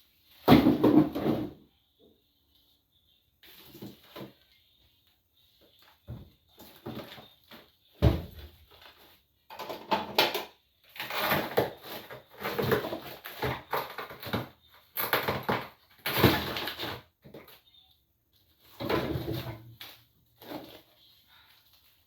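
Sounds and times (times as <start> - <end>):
household items being handled: 2.4 - 22.0.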